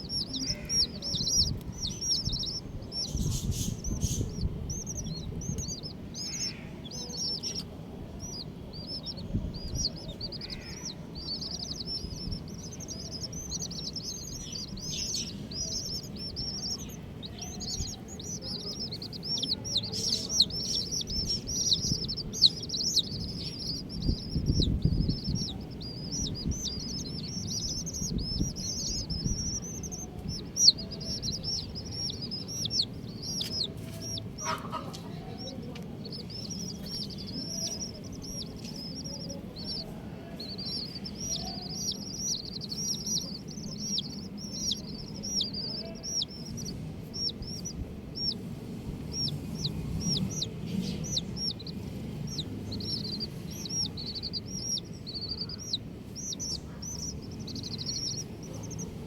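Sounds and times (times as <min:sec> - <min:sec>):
baby chicks peeping: 0:00.0 - 0:59.0
low rumble: 0:00.0 - 0:59.0.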